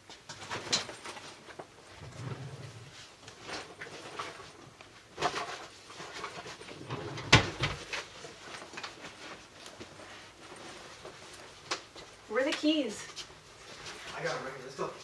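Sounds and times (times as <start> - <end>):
clatter of objects: 0.0 - 12.6
rustling of packing: 0.0 - 14.9.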